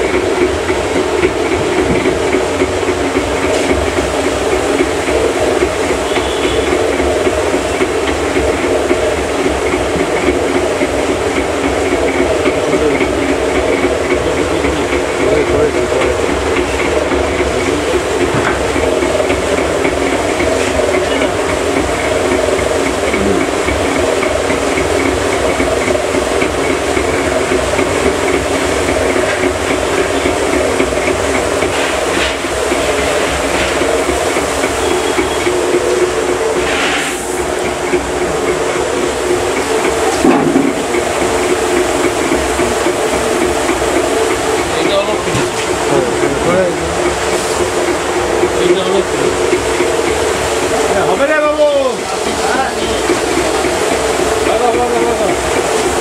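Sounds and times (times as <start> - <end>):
rotating pan rumbling drone: 0.0 - 56.0.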